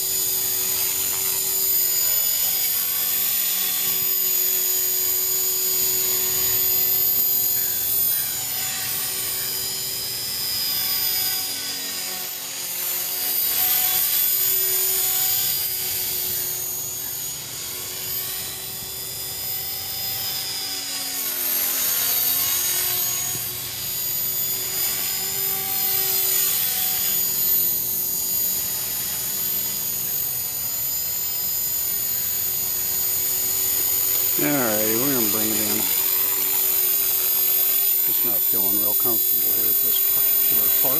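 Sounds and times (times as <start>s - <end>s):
rc helicopter whine: 0.0s - 40.9s.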